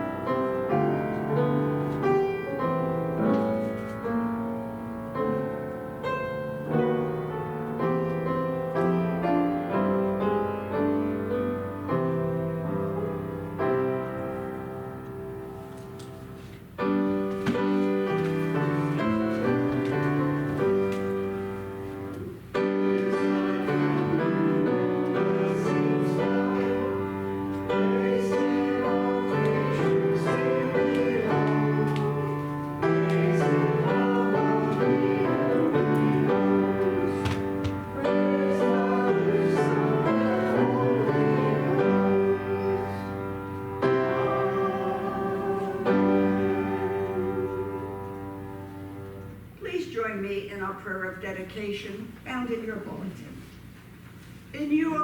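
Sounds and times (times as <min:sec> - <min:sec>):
slow hymn-like piano: 0:00.0 - 0:49.6.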